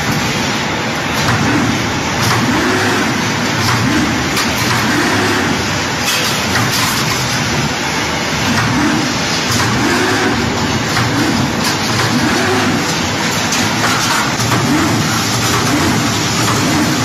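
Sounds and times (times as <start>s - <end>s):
rebar bending machine humming: 0.0s - 17.0s.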